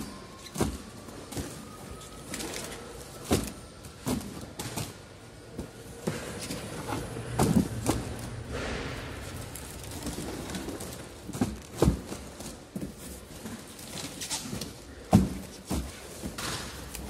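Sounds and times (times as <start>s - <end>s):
bottle packs thudding on pallet: 0.0s - 17.0s.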